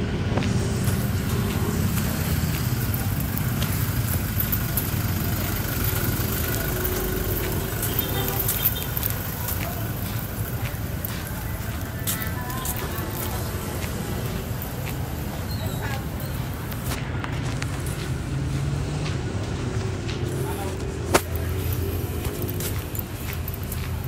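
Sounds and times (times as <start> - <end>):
rumble of road vehicles: 0.0 - 24.0.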